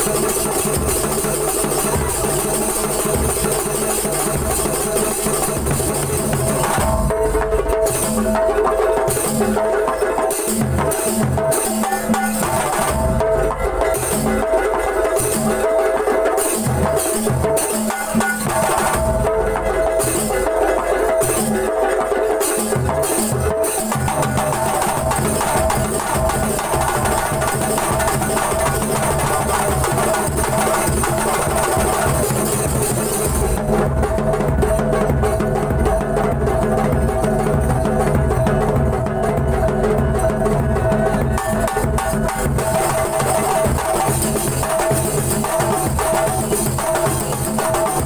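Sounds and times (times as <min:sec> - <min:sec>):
frame drums playing fast rhythm: 0:00.0 - 0:48.0.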